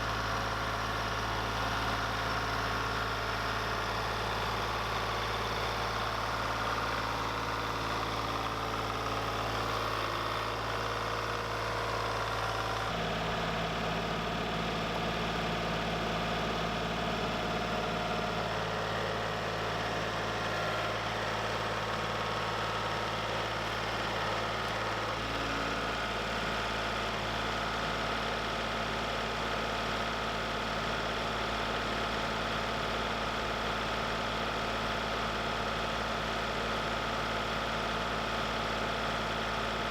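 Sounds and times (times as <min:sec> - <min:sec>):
gasoline engine running: 0:00.0 - 0:39.9.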